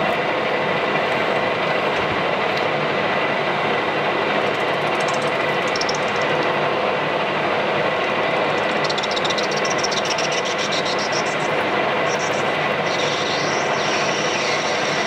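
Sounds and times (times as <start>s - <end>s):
metal lathe running: 0.0s - 15.0s
thin steady whine: 0.0s - 15.0s.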